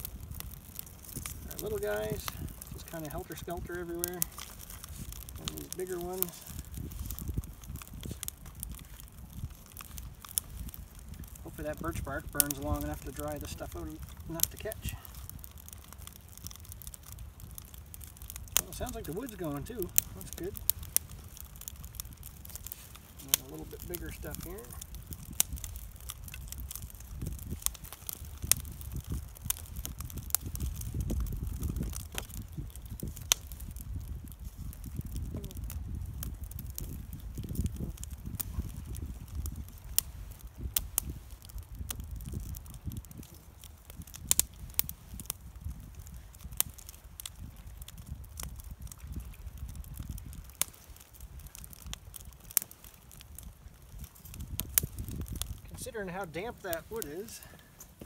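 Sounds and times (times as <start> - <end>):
fire crackling and popping: 0.0 - 58.0
sticks laid on fire: 0.0 - 58.0.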